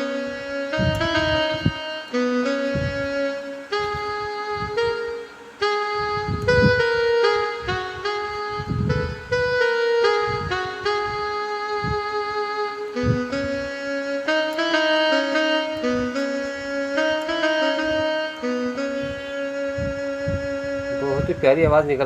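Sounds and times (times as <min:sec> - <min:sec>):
accompaniment with low beats: 0:00.0 - 0:22.0
saxophone-like keyboard melody: 0:00.0 - 0:22.0.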